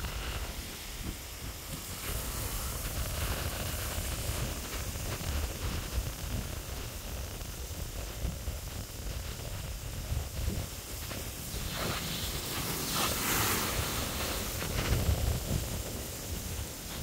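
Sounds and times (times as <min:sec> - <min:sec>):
surf breaking on rocks: 0:00.0 - 0:17.0
wind buffeting microphone: 0:00.0 - 0:17.0.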